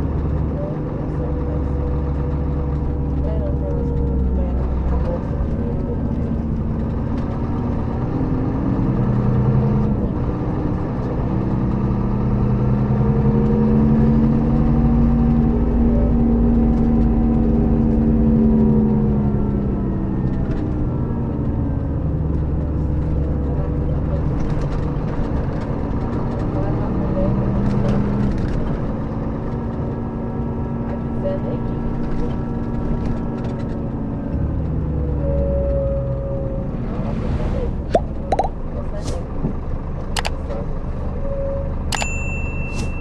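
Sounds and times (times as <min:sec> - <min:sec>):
coach diesel engine running: 0:00.0 - 0:12.7, 0:16.0 - 0:41.2.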